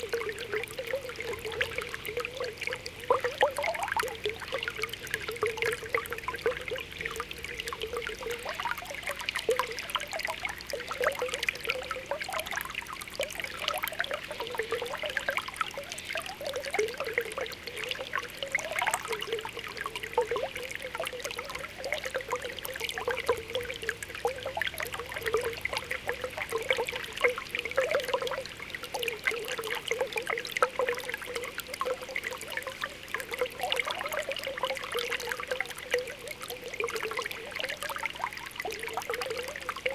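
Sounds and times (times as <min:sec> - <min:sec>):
spring water bubbling and gurgling: 0:00.0 - 0:39.9
water trickling: 0:00.0 - 0:39.9.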